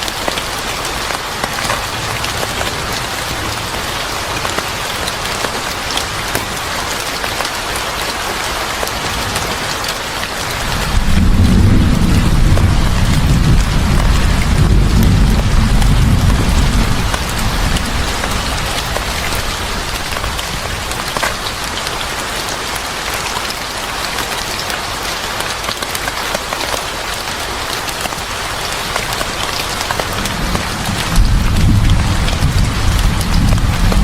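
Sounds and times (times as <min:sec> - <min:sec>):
rain patter: 0:00.0 - 0:34.0.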